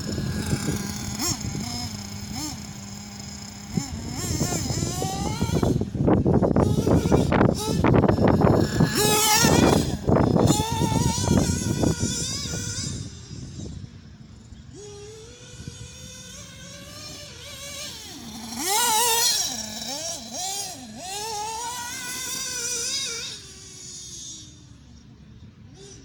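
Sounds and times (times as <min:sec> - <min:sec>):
rc buggy engine buzzing: 0:00.0 - 0:26.0.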